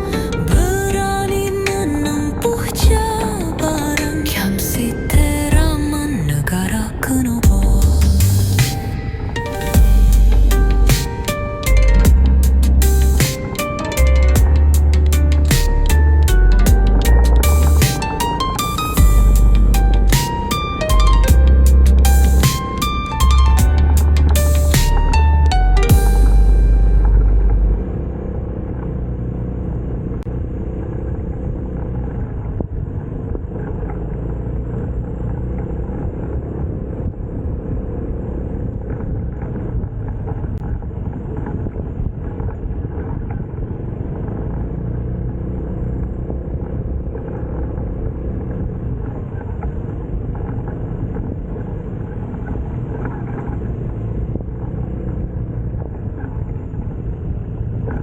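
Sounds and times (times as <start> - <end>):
motorcycle engine running: 7.4 - 8.8, 9.8 - 58.0.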